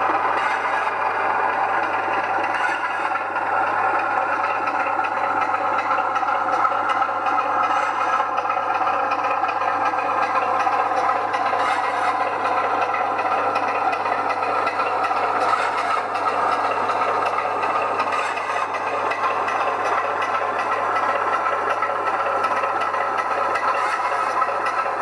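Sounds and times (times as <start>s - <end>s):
model train mechanical hum: 0.0s - 25.0s
wheels rattling on track: 0.0s - 25.0s.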